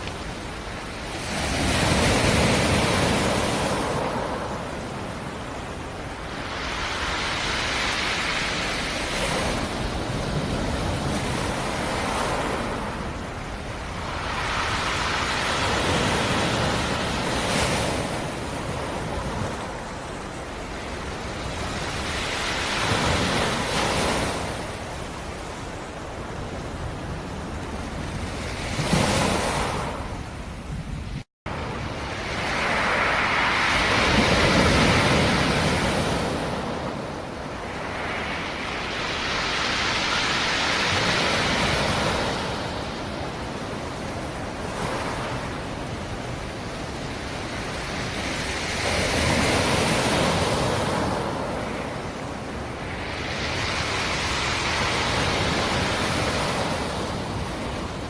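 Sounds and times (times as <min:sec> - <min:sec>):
waves washing onto shore: 0:00.0 - 0:58.0.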